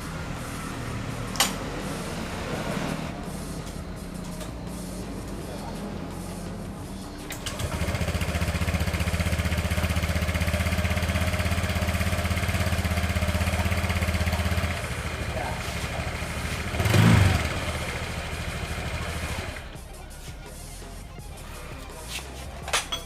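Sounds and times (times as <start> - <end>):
scooter engine running: 0.0 - 19.8.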